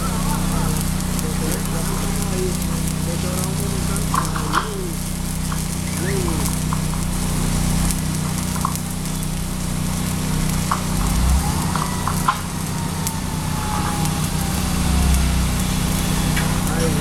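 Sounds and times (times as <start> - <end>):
low hum: 0.0 - 17.0
welding arc crackling and hissing: 0.0 - 17.0
sharp pops: 0.2 - 17.0.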